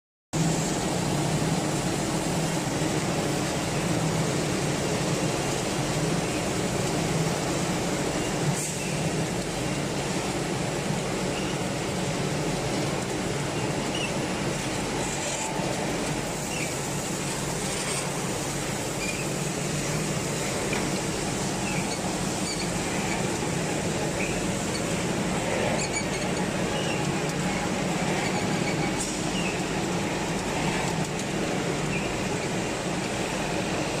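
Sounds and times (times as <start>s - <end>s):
machinery hum and rushing: 0.4s - 34.0s.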